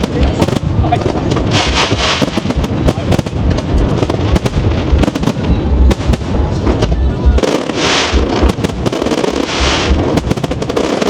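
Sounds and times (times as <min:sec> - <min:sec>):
firework shell bursts and bangs: 0:00.0 - 0:11.0
fireworks crackling hiss: 0:00.0 - 0:11.0.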